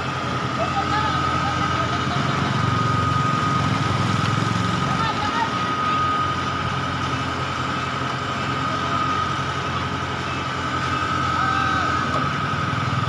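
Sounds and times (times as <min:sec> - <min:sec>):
diesel engine running: 0:00.0 - 0:13.0
high-pitched whine: 0:00.0 - 0:13.0.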